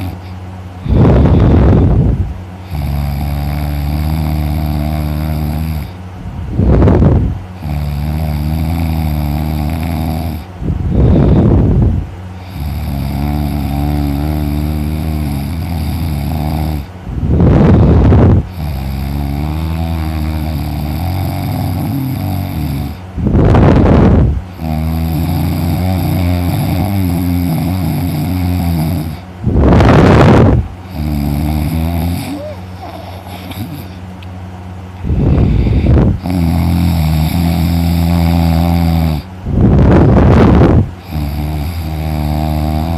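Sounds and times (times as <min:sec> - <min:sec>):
person snoring heavily: 0:00.0 - 0:34.0, 0:35.0 - 0:42.9
droning breath sound: 0:00.0 - 0:34.1, 0:34.9 - 0:42.9.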